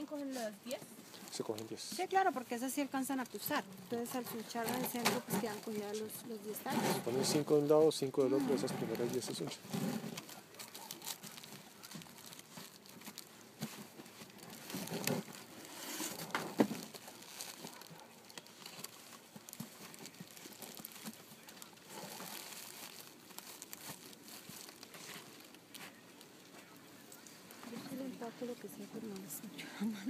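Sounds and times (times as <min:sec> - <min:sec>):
plastic and paper crinkling: 0:00.0 - 0:30.0.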